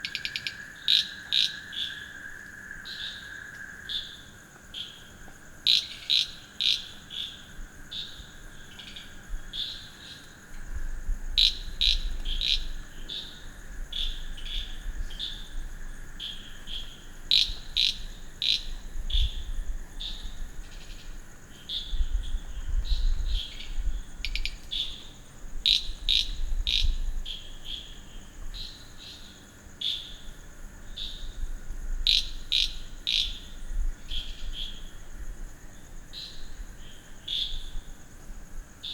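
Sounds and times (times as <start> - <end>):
frogs chirping: 0.0 - 38.0
high insect drone: 0.0 - 38.9.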